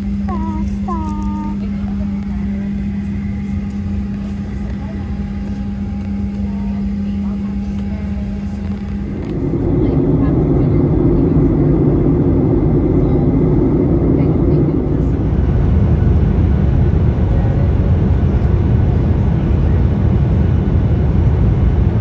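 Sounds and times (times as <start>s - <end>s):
airliner cabin engine noise: 0.0s - 22.0s.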